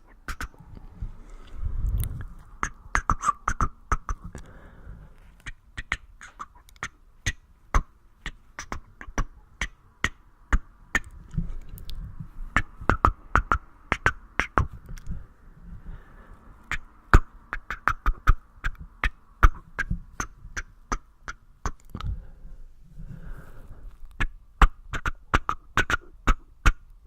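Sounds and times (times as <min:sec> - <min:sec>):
mouth clicks and pops: 0:00.0 - 0:00.8, 0:01.4 - 0:04.6, 0:05.4 - 0:15.2, 0:16.7 - 0:22.2, 0:24.0 - 0:26.9.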